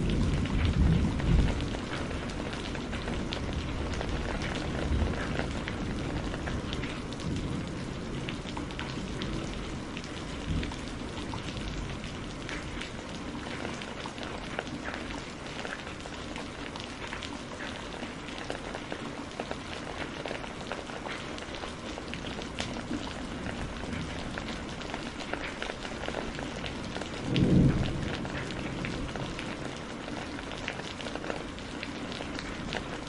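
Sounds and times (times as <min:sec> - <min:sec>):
distant thunder rumble: 0:00.0 - 0:17.1, 0:22.0 - 0:32.8
rain pattering on hard surfaces: 0:00.0 - 0:33.0.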